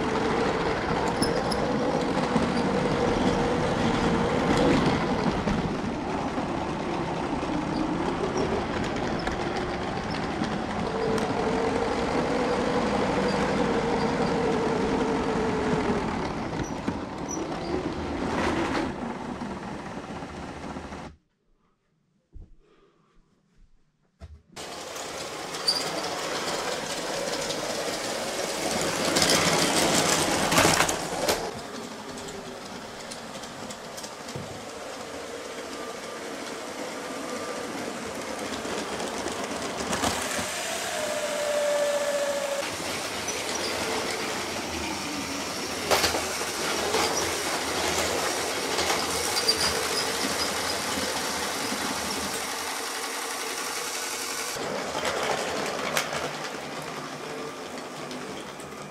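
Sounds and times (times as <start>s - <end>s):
toy trains whirring on track: 0.0s - 21.0s, 24.6s - 58.9s.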